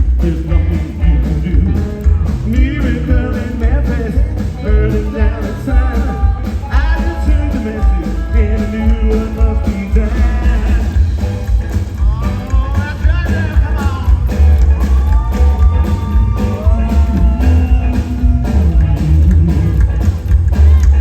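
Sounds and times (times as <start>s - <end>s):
rockabilly band playing: 0.0s - 21.0s.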